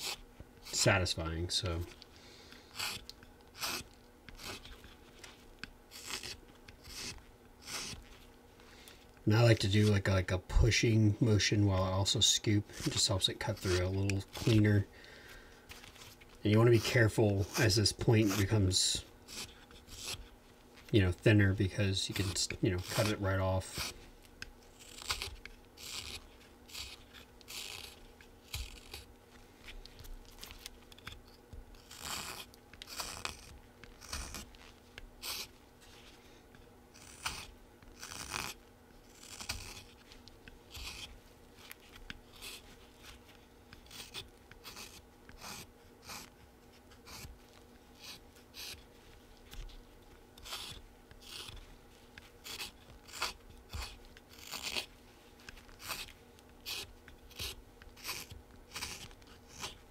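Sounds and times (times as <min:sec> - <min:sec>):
knife scraping wood: 0:00.0 - 0:01.0, 0:01.6 - 0:08.2, 0:11.8 - 0:24.0, 0:24.7 - 0:35.6, 0:36.9 - 0:49.8, 0:50.4 - 0:59.9.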